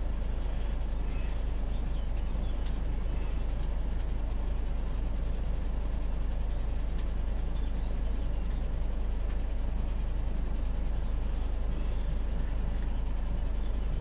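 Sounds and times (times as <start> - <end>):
motorhome engine and road drone: 0.0 - 14.0.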